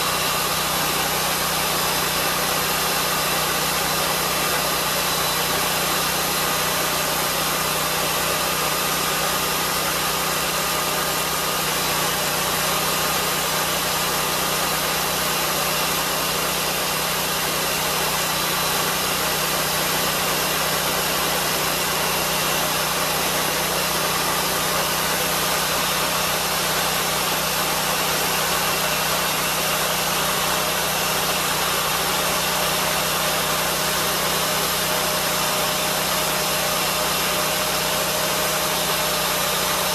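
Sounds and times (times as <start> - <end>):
circular blade cutting log: 0.0 - 39.9
sawmill engine running: 0.0 - 39.9.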